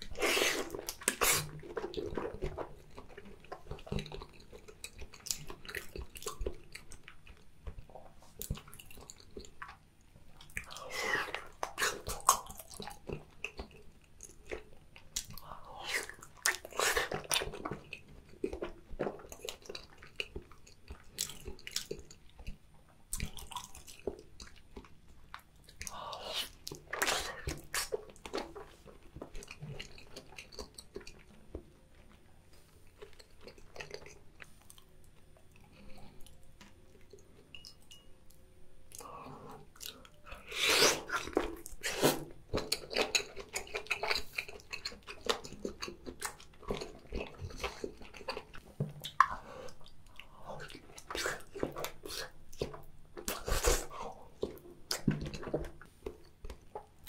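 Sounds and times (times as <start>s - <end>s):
chewing wet mouth sounds: 0.0s - 57.0s.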